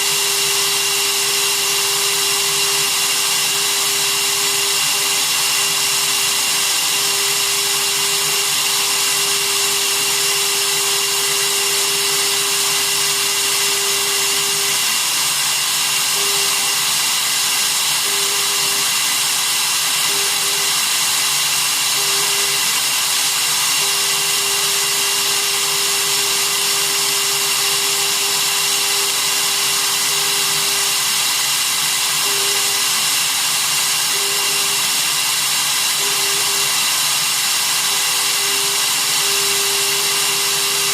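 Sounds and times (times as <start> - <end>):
router spindle motor milling: 0.0 - 40.9.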